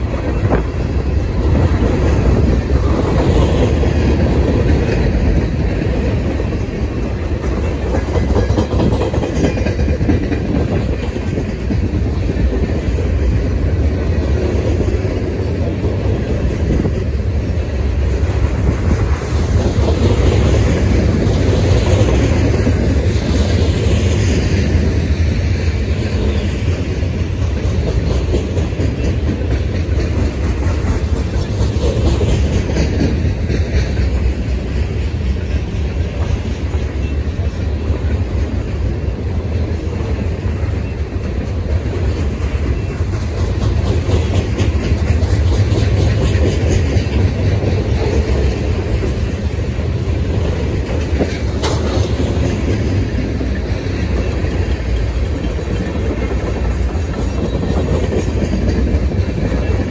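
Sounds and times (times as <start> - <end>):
train rumble: 0.0 - 59.9
train wheels clicking over rail joints: 0.0 - 59.9.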